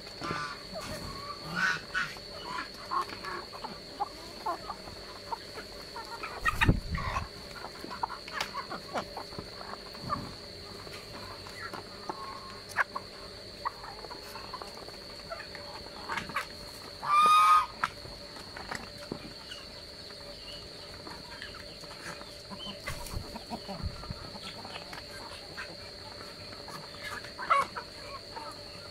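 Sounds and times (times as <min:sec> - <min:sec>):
birds pecking ground: 0:00.0 - 0:28.9.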